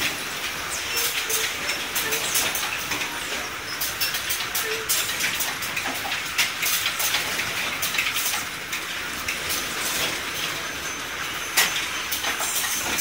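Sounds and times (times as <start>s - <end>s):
factory noise hiss: 0.0s - 13.0s.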